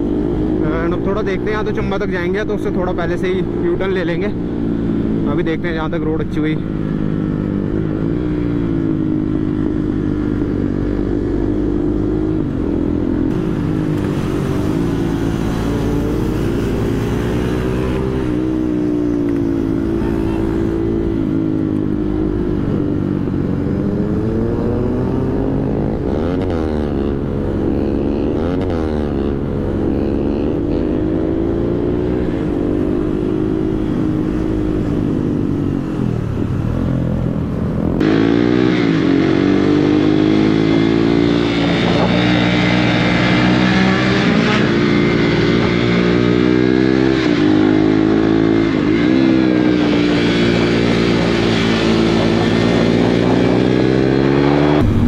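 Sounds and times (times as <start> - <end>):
motorcycle engine revving: 0.0 - 55.0
wind rushing over microphone: 3.3 - 55.0.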